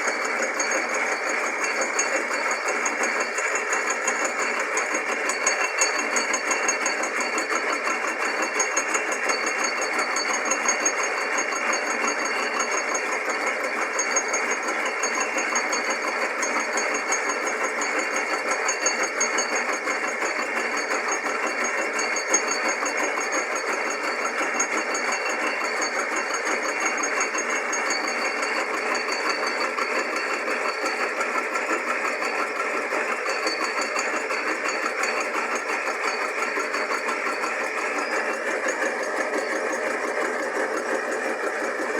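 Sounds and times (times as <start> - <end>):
drill press and lathe running: 0.0 - 41.9.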